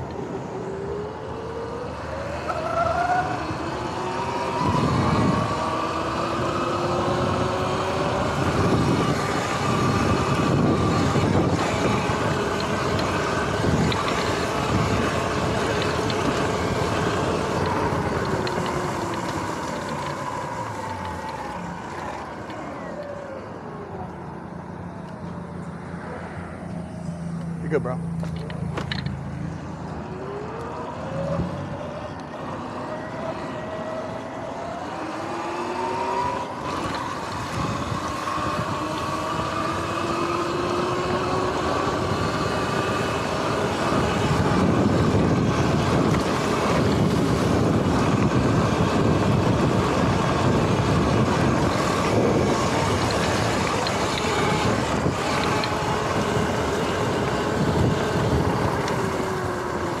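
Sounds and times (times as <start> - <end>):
electric motor whining: 0.0 - 25.1, 29.8 - 60.0
wind: 0.0 - 60.0.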